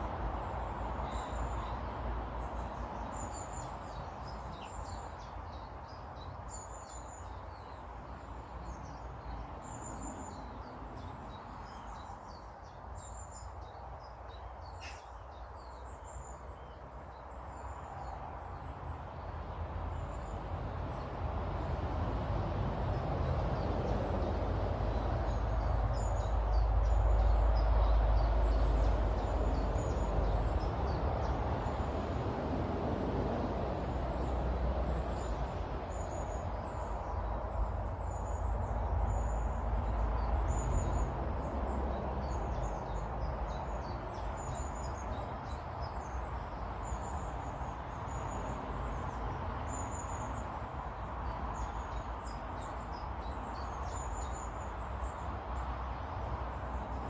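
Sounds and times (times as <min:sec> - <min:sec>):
small birds chirping: 0:00.4 - 0:21.8, 0:22.9 - 0:32.2, 0:35.0 - 0:57.0.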